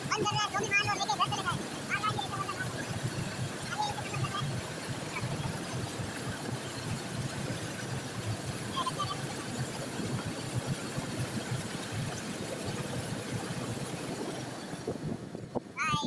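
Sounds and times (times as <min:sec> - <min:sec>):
diesel engine idling: 0:00.0 - 0:15.8.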